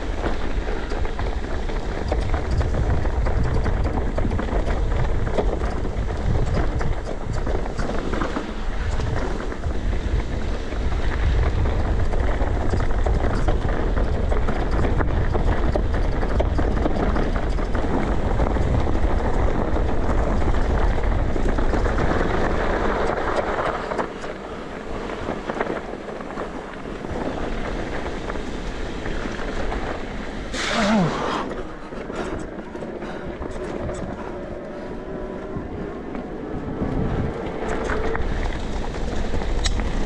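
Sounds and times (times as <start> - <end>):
bike chattering over bumps: 0.0 - 34.4
tyres rolling on dirt: 0.0 - 40.0
wind rushing over microphone: 0.0 - 40.0.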